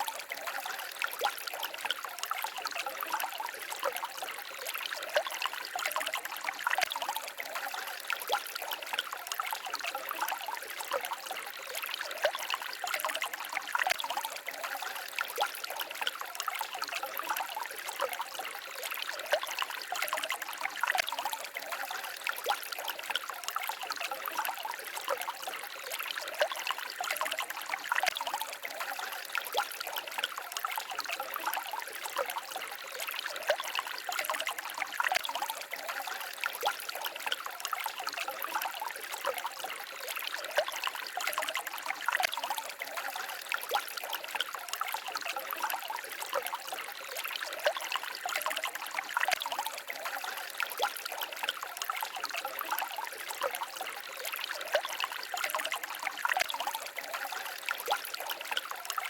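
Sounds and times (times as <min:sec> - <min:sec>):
stream babbling and trickling: 0:00.0 - 0:59.0.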